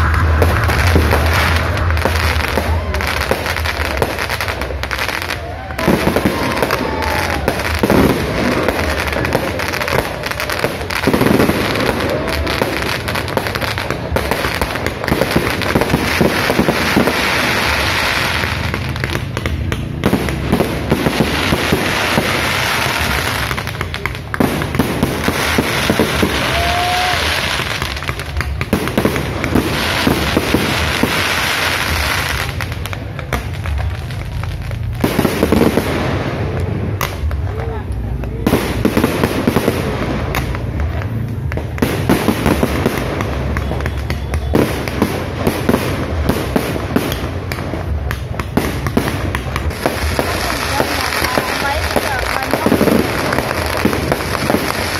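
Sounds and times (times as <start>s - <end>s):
fireworks popping and crackling: 0.0s - 54.9s.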